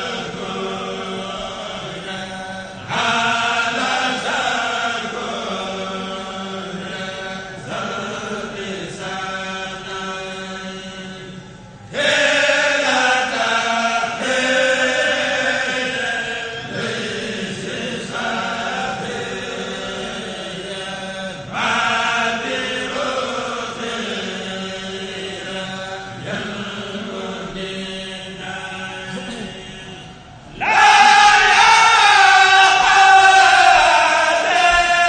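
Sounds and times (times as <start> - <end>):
men chanting into microphones: 0.0 - 35.0.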